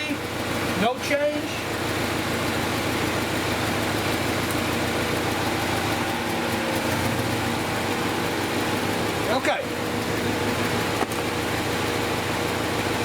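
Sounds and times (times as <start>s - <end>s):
car engine idling rough: 0.0s - 13.0s.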